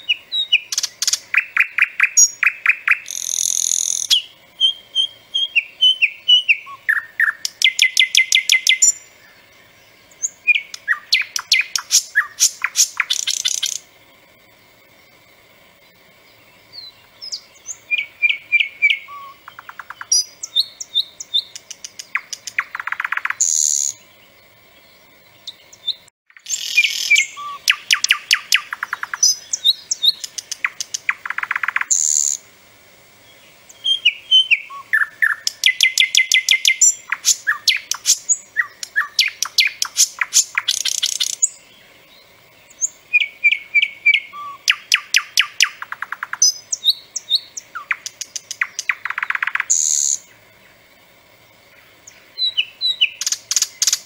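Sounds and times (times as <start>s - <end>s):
nightingale singing: 0.0s - 32.4s, 33.2s - 54.0s.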